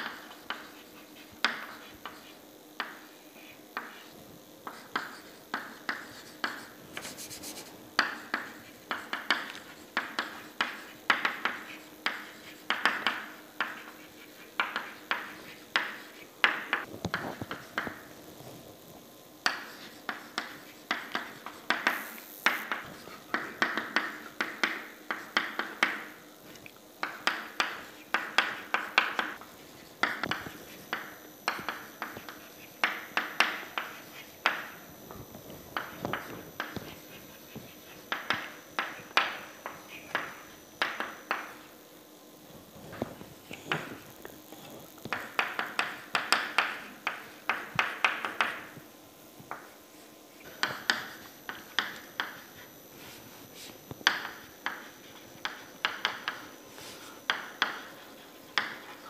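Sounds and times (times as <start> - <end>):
chalk tapping on a blackboard: 0.0 - 18.2, 19.4 - 26.2, 27.0 - 34.8, 35.7 - 41.7, 43.6 - 44.0, 45.1 - 48.8, 49.5 - 49.8, 50.4 - 59.0.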